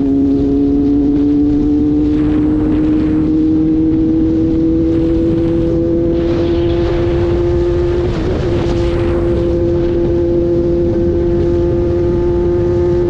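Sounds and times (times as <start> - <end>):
heavy wind: 0.0 - 13.0
road noise: 0.0 - 13.0
vehicle engine humming: 0.0 - 13.0.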